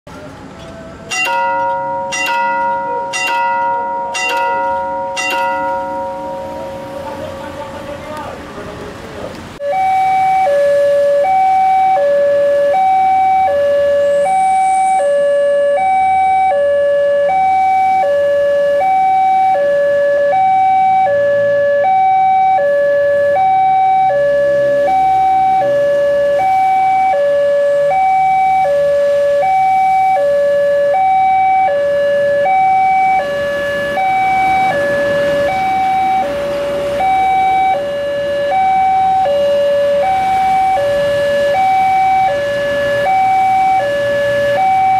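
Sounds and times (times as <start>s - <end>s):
level crossing two-tone alarm: 1.1s - 8.0s, 9.6s - 44.9s.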